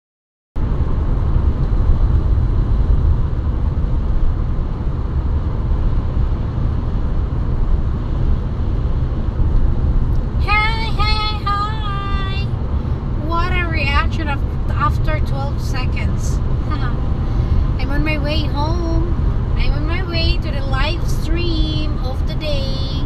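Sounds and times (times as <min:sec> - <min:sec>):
car engine and road rumble: 0:00.6 - 0:23.0.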